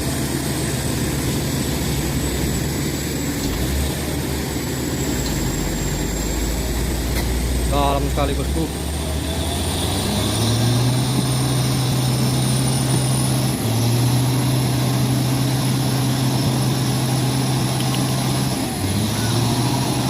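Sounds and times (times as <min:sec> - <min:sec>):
diesel truck engine labouring: 0:00.0 - 0:20.0.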